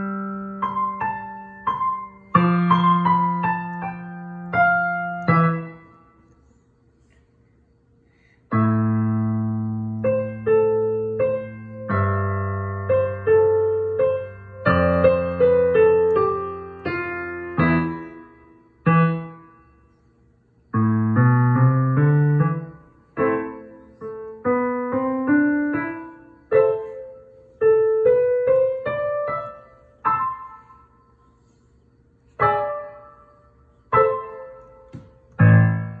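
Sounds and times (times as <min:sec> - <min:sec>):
slow digital piano piece: 0:00.0 - 0:06.6, 0:08.5 - 0:36.0.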